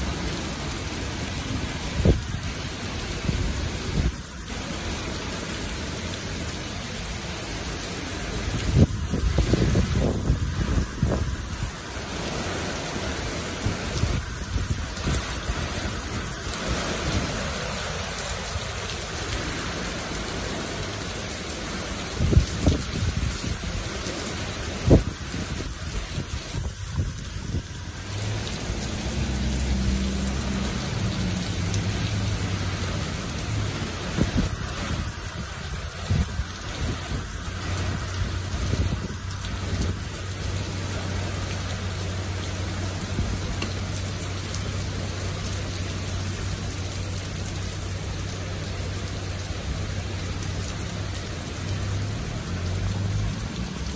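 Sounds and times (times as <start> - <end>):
heavy rain on pavement: 0.0 - 53.9.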